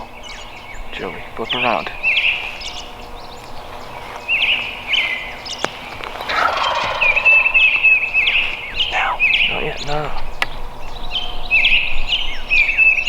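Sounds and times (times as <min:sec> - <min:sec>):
bird chirps: 0:00.0 - 0:13.0
turkey gobbling: 0:00.0 - 0:13.0.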